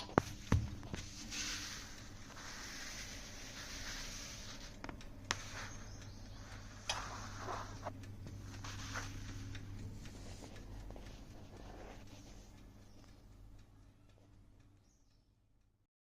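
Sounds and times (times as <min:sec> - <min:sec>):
soft rustling and scraping: 0:00.0 - 0:13.2.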